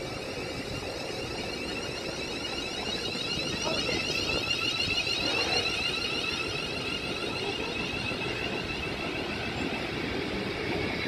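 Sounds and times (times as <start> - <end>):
electric train whine: 0.0 - 11.0.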